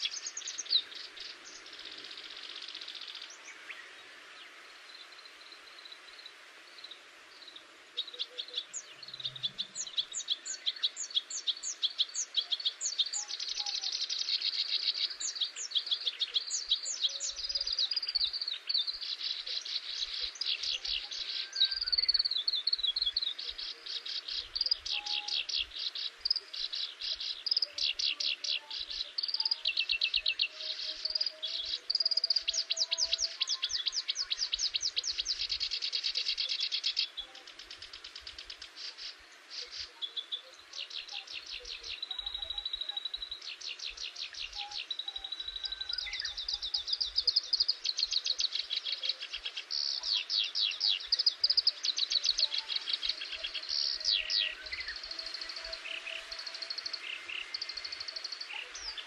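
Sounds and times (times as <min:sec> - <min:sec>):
songbird chirping: 0:00.0 - 0:59.0.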